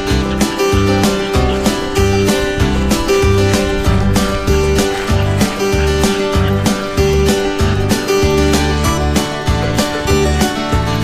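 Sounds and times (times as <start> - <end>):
country guitar music: 0.0 - 11.0.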